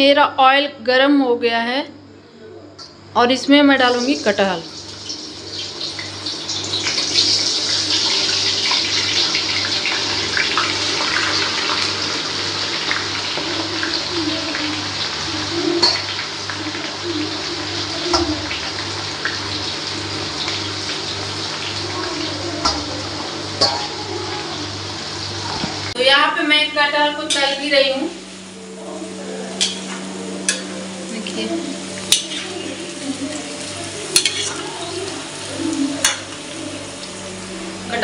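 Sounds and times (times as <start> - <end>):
food sizzling in hot oil: 3.6 - 38.0.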